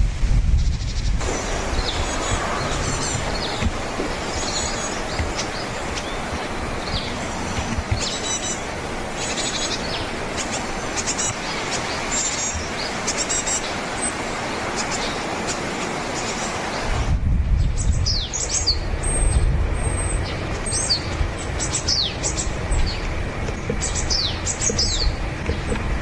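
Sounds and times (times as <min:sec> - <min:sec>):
background hiss: 0:00.0 - 0:26.0
small birds chirping: 0:00.6 - 0:17.0, 0:17.6 - 0:26.0.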